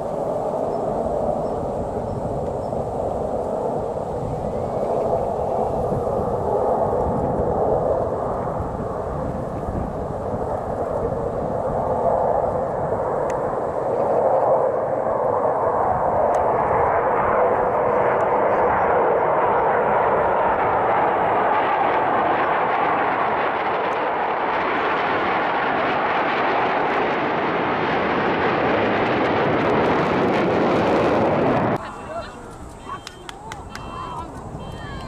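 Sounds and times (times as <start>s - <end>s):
jets flying past overhead: 0.0s - 35.0s.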